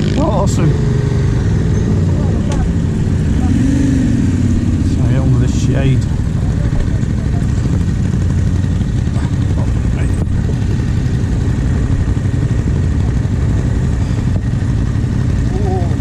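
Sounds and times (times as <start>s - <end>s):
motorcycle engine idling: 0.2s - 16.0s.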